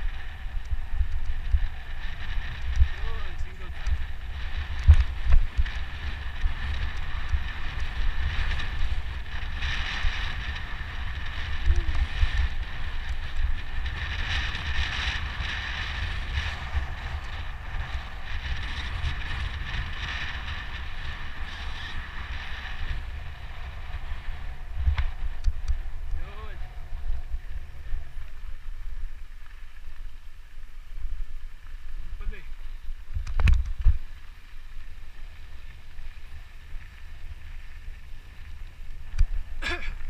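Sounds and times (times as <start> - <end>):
bike tyres and drivetrain buzzing: 0.0 - 40.0
wind rumble on microphone: 0.0 - 40.0.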